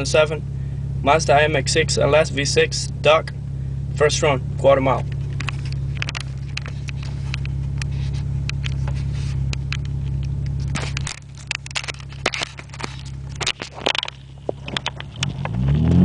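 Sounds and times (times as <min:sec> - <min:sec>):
car engine drone from cabin: 0:00.0 - 0:16.0.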